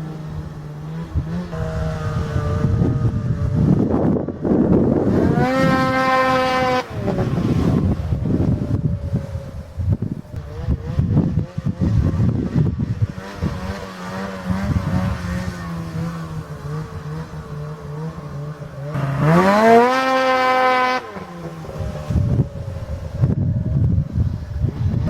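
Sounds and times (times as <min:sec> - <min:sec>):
snowmobile engine idling and revving: 0:00.0 - 0:25.0.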